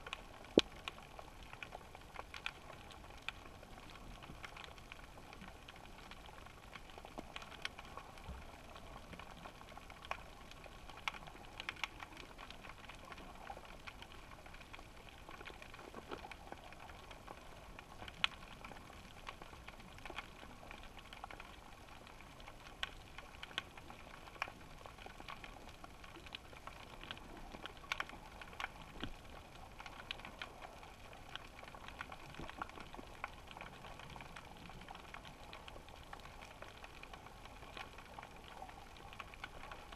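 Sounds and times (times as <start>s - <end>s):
underwater crackling clicks: 0.0s - 39.9s.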